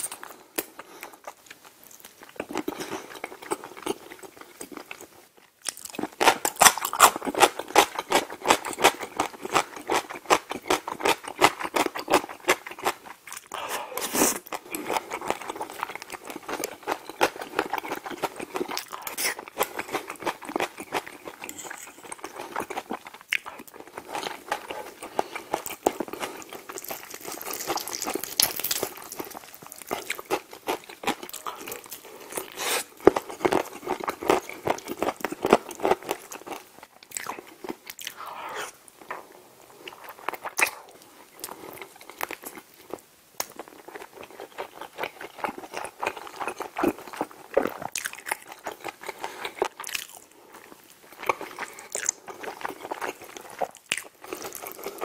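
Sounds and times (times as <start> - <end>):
chewing chicken close-up: 0.0 - 38.2, 39.8 - 55.0.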